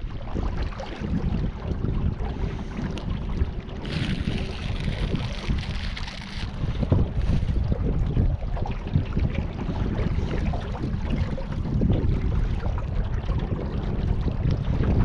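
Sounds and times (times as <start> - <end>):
river water moving: 0.0 - 15.0
wind buffeting microphone: 0.0 - 15.0.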